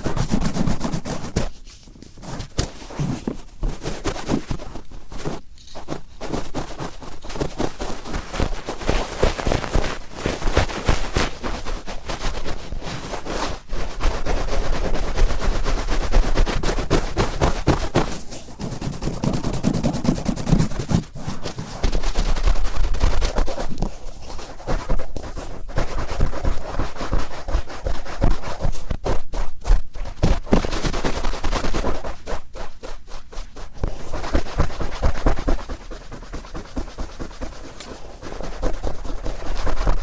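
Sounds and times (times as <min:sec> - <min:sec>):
cotton swab scratching inside ear: 0:00.0 - 0:14.2, 0:16.2 - 0:30.6, 0:31.4 - 0:40.0.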